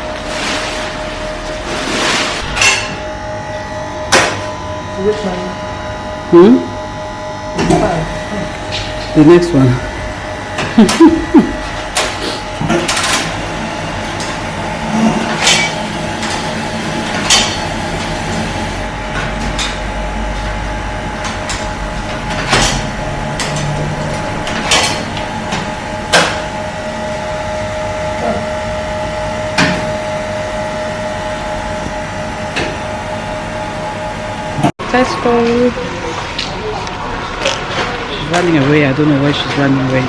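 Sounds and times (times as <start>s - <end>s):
laundromat machines humming: 0.0s - 40.0s.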